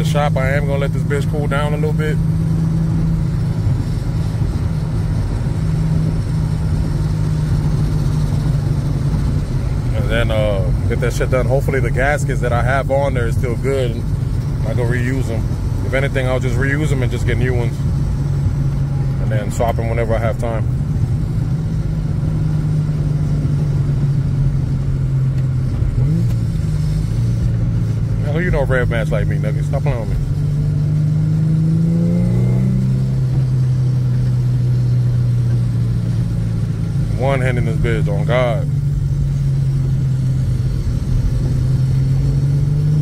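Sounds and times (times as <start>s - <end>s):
car engine low drone: 0.0s - 43.0s.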